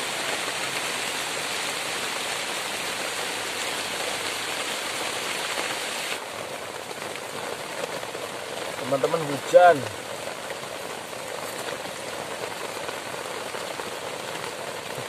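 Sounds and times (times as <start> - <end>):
heavy rain on grass: 0.0 - 15.0.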